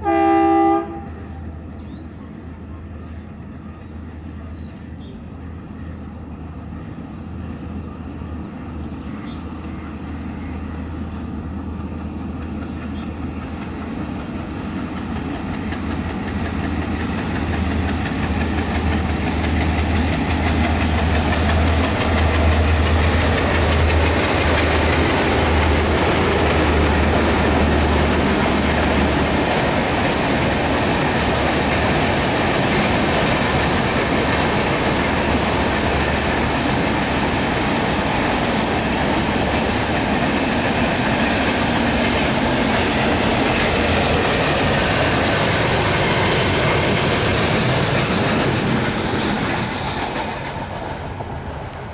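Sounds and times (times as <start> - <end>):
diesel locomotive engine throb: 0.0 - 51.9
train wheels rumbling on rails: 0.0 - 51.9.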